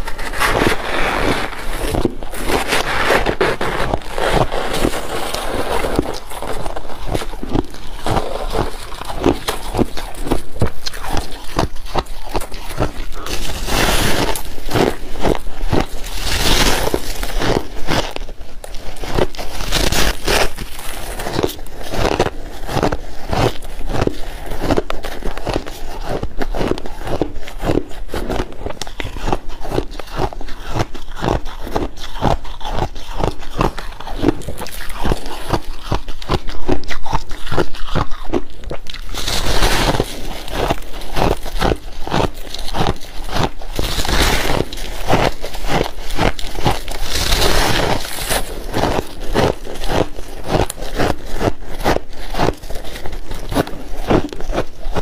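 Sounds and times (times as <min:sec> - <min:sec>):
person chewing crushed ice: 0:00.0 - 0:55.0.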